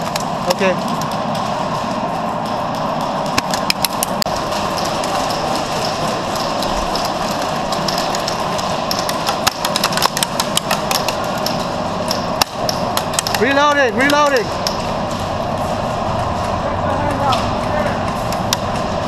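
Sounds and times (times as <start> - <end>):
steady mechanical drone: 0.0 - 19.0.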